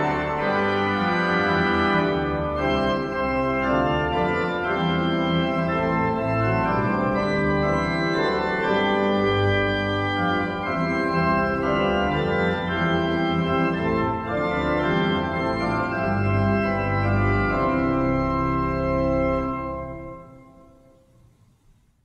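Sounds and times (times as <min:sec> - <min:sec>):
organ playing sustained chords: 0:00.0 - 0:21.1.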